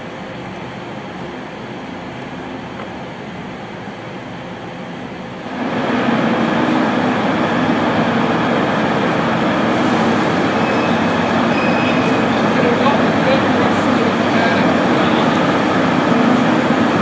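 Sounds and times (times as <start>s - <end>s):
diesel locomotive drone: 0.0s - 17.0s.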